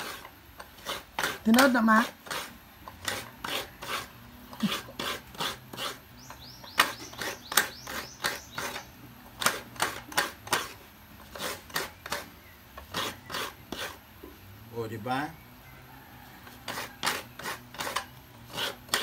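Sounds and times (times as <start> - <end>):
coconut grating scrapes: 0.0 - 14.4, 16.2 - 19.0.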